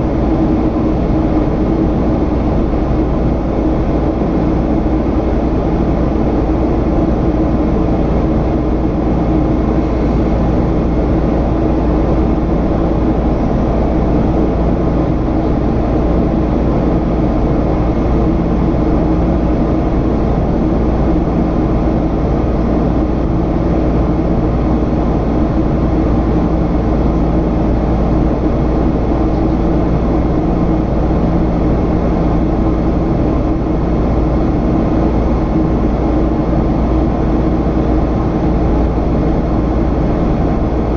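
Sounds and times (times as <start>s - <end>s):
jet engines in flight: 0.0s - 40.9s.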